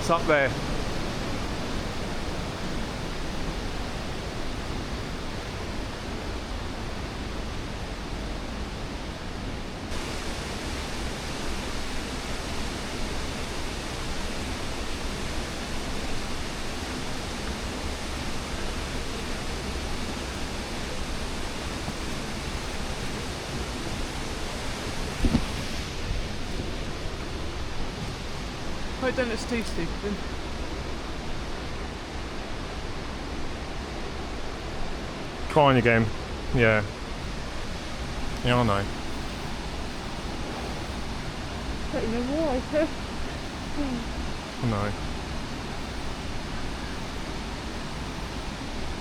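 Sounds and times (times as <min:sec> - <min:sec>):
stream and waterfall rushing: 0:00.0 - 0:49.0.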